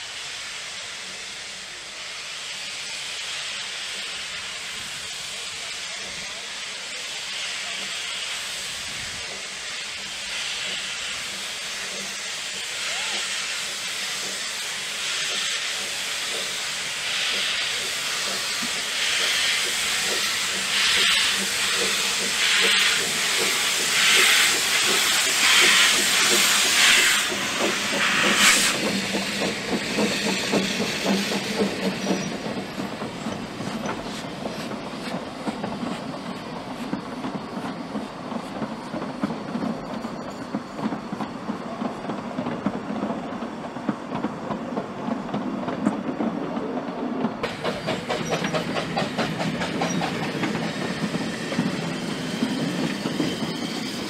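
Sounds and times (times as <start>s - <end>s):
steam hiss: 0.0s - 54.0s
steam locomotive exhaust beats: 0.0s - 54.0s
train wheels clicking on rails: 1.0s - 54.0s.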